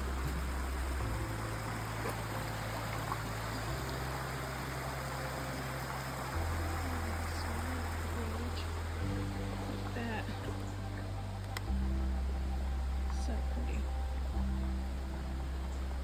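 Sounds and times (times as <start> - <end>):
creek water running: 0.0 - 16.0
low background music: 0.0 - 16.0.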